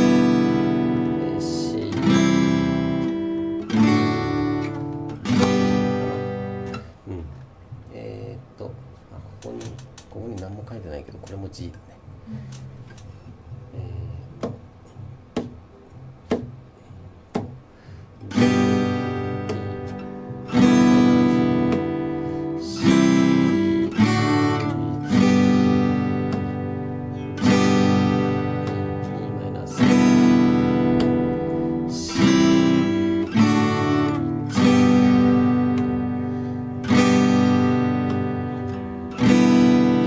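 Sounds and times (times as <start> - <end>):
acoustic guitar strummed chords: 0.0 - 10.6, 12.1 - 40.0.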